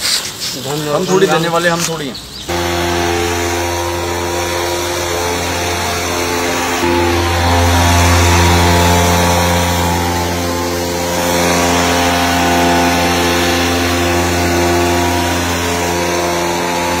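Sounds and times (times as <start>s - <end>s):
sprayer petrol engine running: 2.5s - 17.0s.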